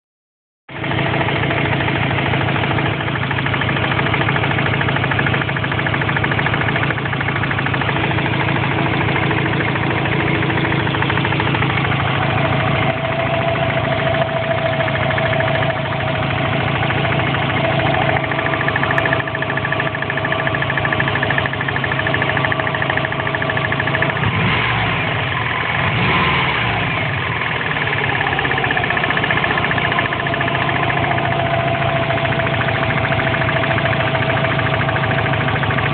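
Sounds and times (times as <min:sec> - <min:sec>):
car engine running with knock: 0:00.7 - 0:35.9.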